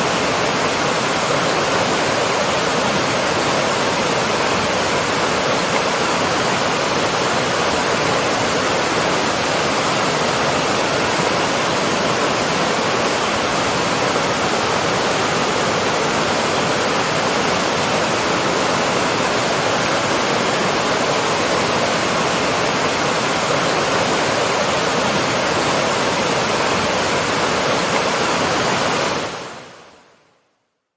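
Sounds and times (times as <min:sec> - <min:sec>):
waterfall roaring: 0:00.0 - 0:30.2.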